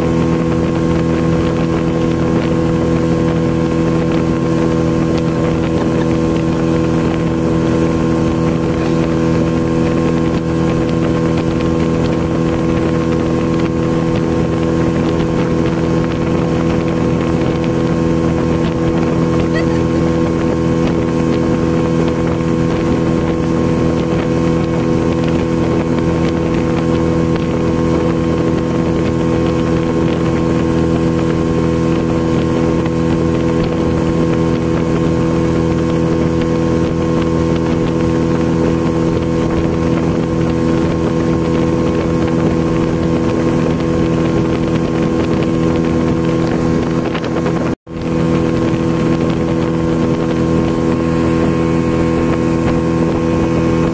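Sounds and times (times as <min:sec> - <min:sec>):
outboard motor running: 0:00.0 - 0:53.9
wind buffeting microphone: 0:00.0 - 0:53.9.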